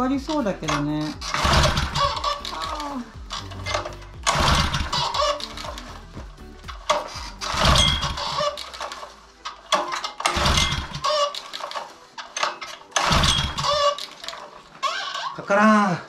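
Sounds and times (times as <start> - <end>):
engine turning over without starting: 0.0 - 6.0, 6.7 - 15.4.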